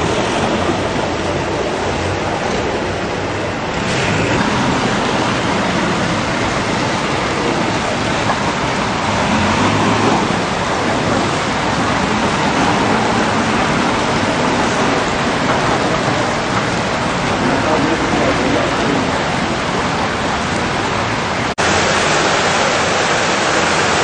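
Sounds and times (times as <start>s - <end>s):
heavy rain pouring on street: 0.0s - 24.0s.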